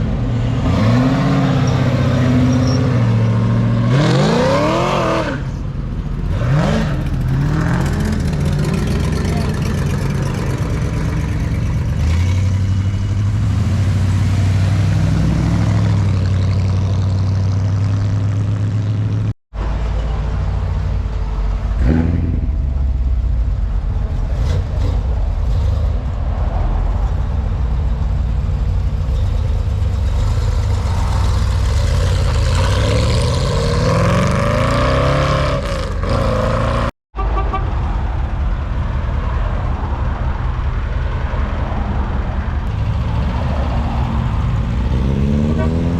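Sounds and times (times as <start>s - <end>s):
cars driving past revving: 0.0s - 19.9s, 21.4s - 45.9s.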